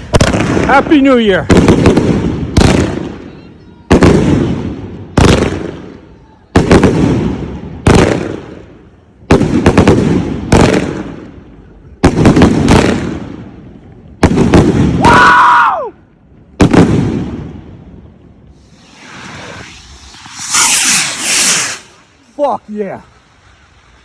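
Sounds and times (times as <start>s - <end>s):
fireworks booming: 0.0s - 15.2s, 16.2s - 24.0s.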